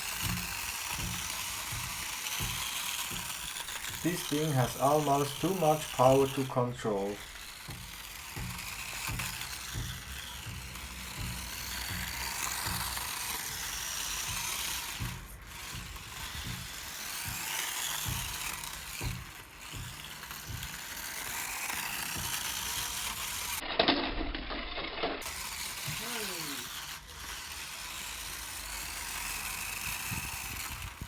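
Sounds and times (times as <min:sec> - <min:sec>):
rc car motor whirring: 0:00.0 - 0:31.0.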